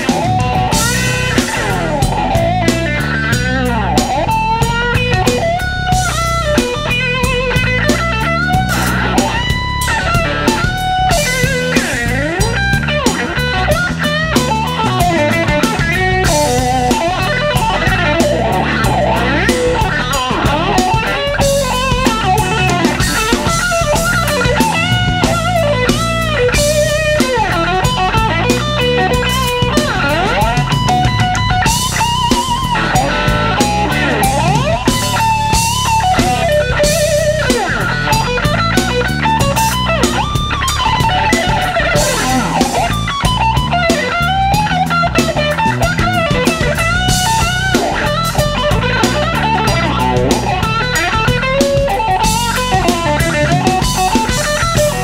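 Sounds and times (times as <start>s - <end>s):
bass guitar: 0.0s - 55.0s
drum kit: 0.0s - 55.0s
electric guitar solo: 0.0s - 55.0s.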